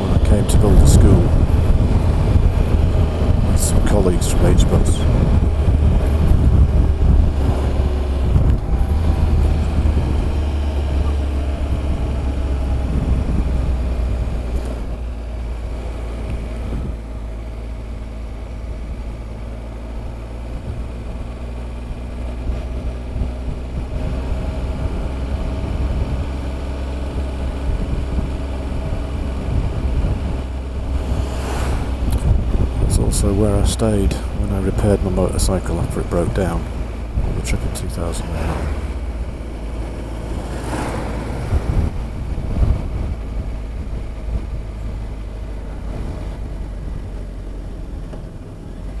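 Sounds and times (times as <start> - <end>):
wind on microphone: 0.0 - 17.2, 20.3 - 48.3
motorcycle engine running: 0.0 - 49.0.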